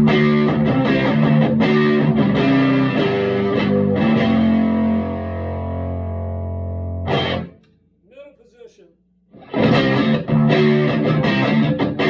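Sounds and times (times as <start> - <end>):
overdriven electric guitar: 0.0 - 7.6, 9.3 - 12.0.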